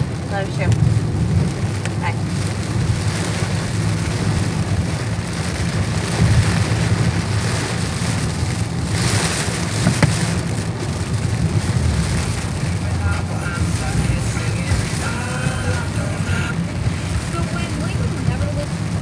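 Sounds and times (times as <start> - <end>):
heavy rain pouring: 0.0 - 19.0
low thunder rumble: 0.0 - 19.0.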